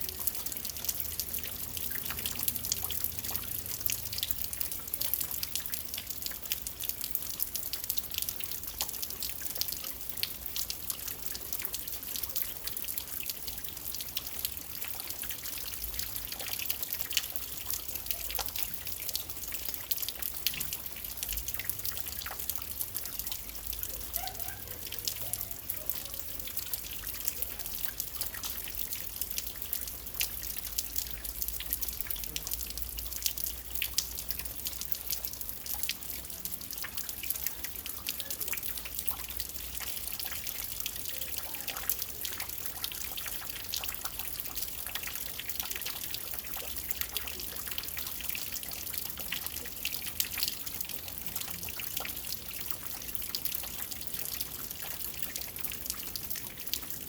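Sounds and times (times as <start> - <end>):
rain falling: 0.0 - 57.0
raindrops ticking and dripping: 0.0 - 57.0.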